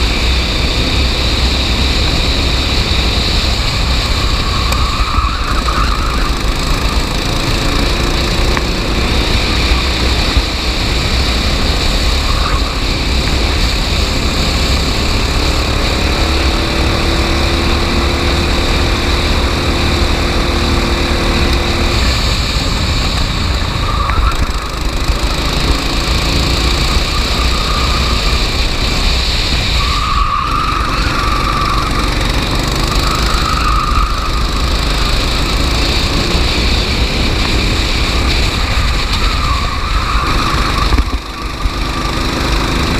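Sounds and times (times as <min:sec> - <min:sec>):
go-kart engines racing: 0:00.0 - 0:42.9.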